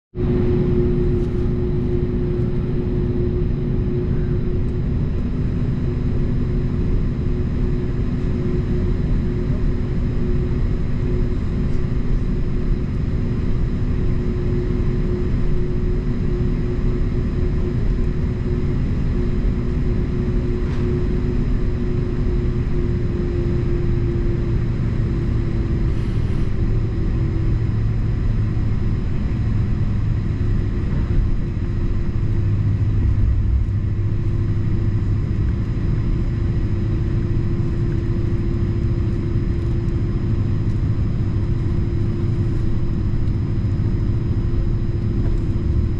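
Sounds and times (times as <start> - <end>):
airliner engines rumbling: 0.1 - 45.9.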